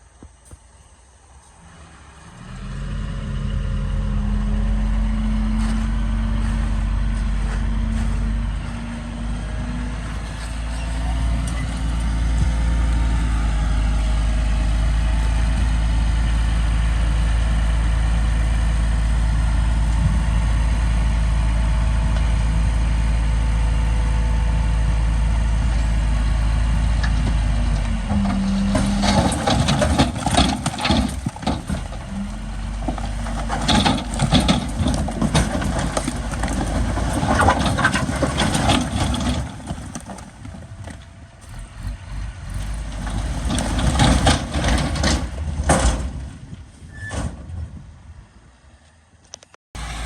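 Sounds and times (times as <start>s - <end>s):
heavy diesel engine running: 1.6s - 46.6s, 49.8s - 50.0s.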